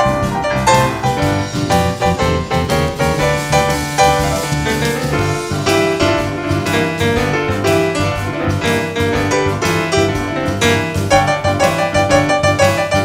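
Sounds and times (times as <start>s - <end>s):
keyboard playing piano sound: 0.0s - 13.0s.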